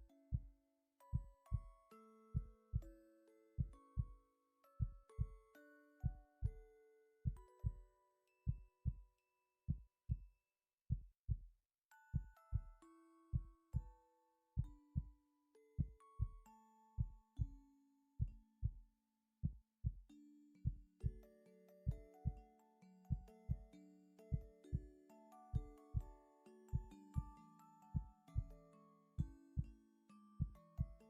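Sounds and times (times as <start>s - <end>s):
soft background music: 0.0s - 9.8s, 11.9s - 18.7s, 20.5s - 31.0s.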